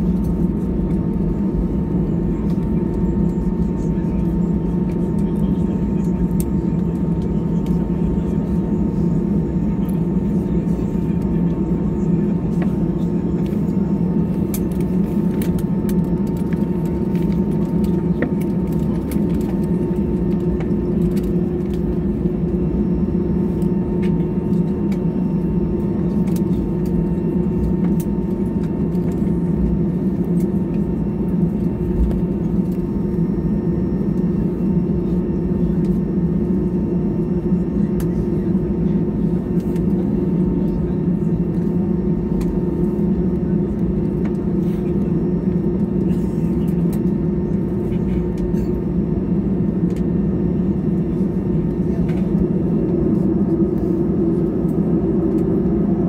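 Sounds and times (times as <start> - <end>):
jet engine drone with whine: 0.0 - 56.0.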